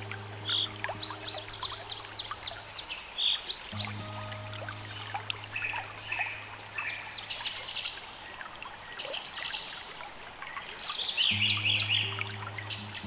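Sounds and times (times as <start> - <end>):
small birds chirping: 0.0 - 13.0
stream trickling: 0.0 - 13.0.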